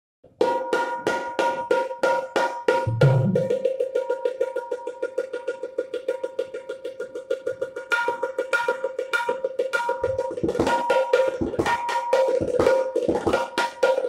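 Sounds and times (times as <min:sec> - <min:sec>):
barrel drum played by hand: 0:00.4 - 0:14.0.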